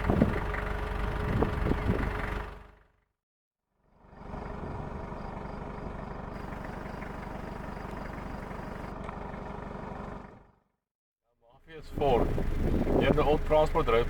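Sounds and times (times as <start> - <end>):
vehicle engine humming: 0.0 - 2.9, 4.0 - 10.6, 11.7 - 14.0.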